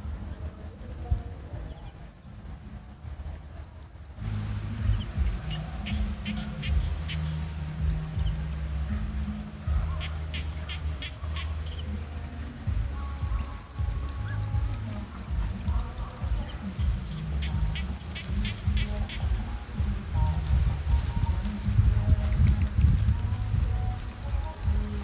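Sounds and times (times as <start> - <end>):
background music with bass: 0.0 - 25.0
crickets trilling: 0.0 - 25.0.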